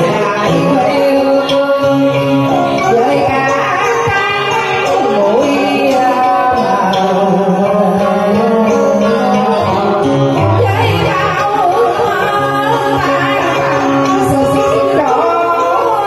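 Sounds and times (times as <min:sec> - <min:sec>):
instrumental backing track: 0:00.0 - 0:16.0
karaoke duet singing: 0:00.0 - 0:16.0.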